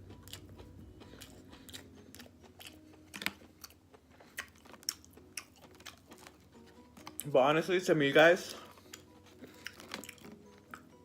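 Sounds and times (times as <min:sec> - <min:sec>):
wet chewing mouth sounds: 0:00.0 - 0:07.3, 0:08.6 - 0:11.0
food crunching: 0:00.0 - 0:07.4, 0:08.1 - 0:11.0.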